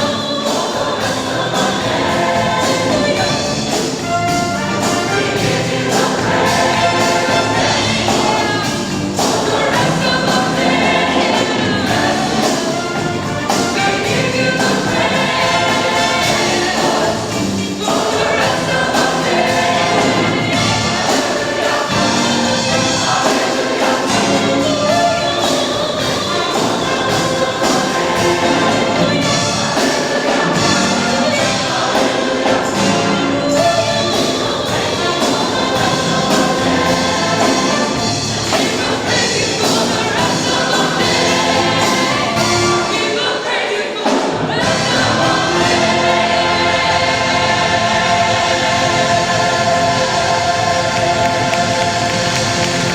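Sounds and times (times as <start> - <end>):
choir singing gospel song: 0.0 - 52.9
instrumental accompaniment: 0.0 - 52.9.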